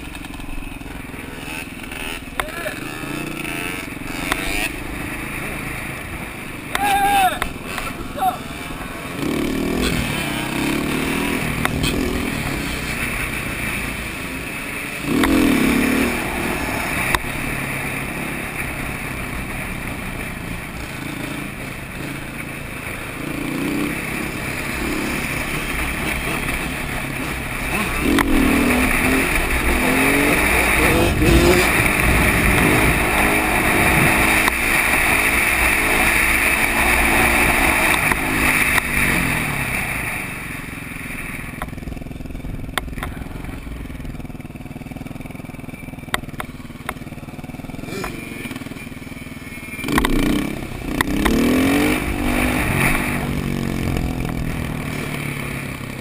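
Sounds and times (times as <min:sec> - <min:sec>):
dirt bike engines revving: 0:00.0 - 0:56.0
steady rushing noise: 0:00.0 - 0:56.0.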